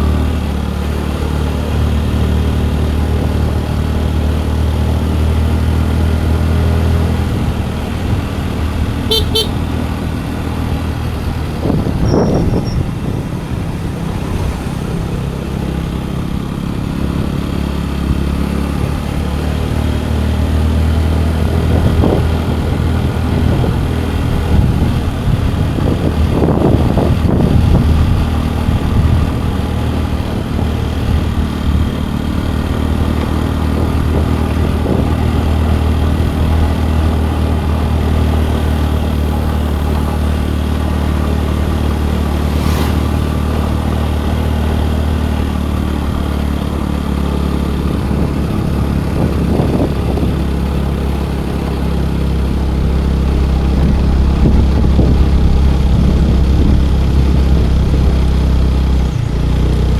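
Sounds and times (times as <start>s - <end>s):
road and wind noise: 0.0s - 59.9s
scooter engine hum: 0.0s - 59.9s.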